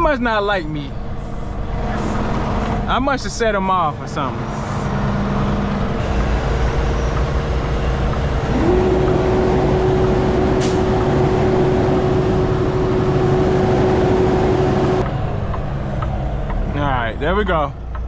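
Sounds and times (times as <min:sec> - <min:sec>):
diesel engine rumbling under load: 0:00.0 - 0:18.0
engine whine: 0:00.0 - 0:18.0.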